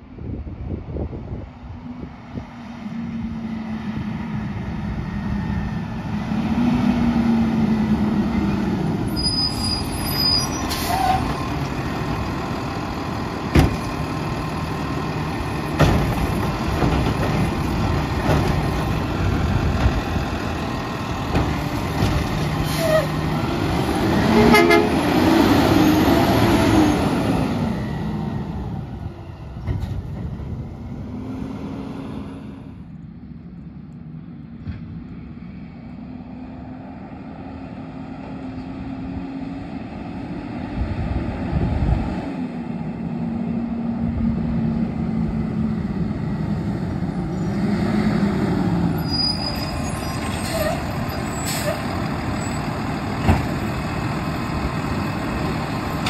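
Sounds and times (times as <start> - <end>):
garbage truck engine whining: 2.8 - 32.8, 36.7 - 56.0.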